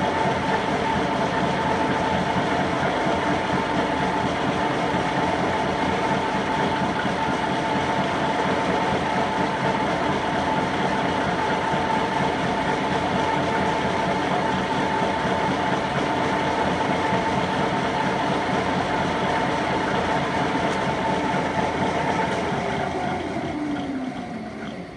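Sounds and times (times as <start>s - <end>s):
gear shaper machine running: 0.0s - 24.9s.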